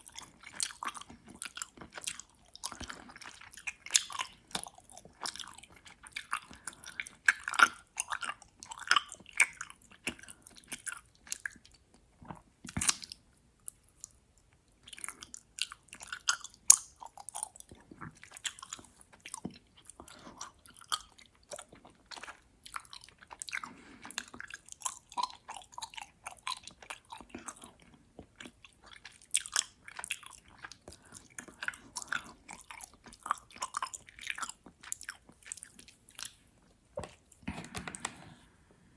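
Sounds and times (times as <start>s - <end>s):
chewing gummy candy: 0.0s - 38.2s.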